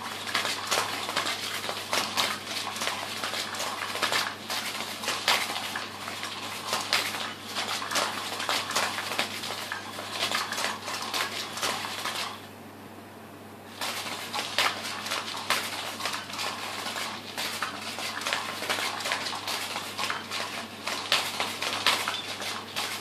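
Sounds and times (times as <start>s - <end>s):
toy motor rattling clatter: 0.0s - 12.4s, 13.8s - 23.0s.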